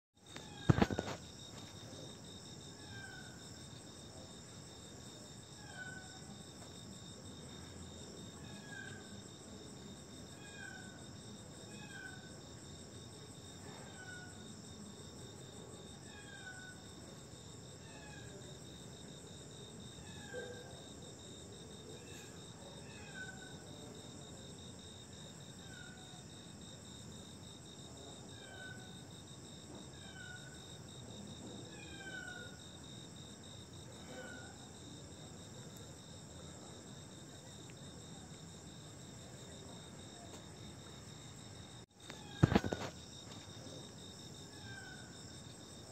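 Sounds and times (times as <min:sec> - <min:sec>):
crickets trilling: 0:00.2 - 0:45.9.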